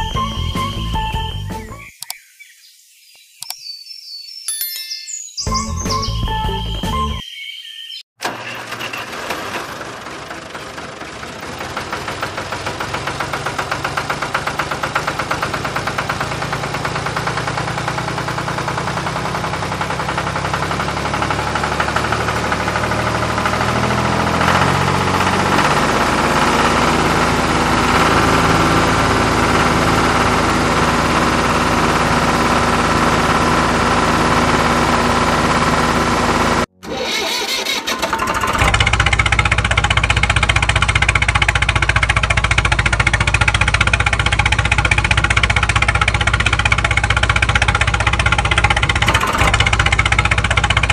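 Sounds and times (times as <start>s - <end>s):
tractor engine chugging: 8.2s - 50.9s.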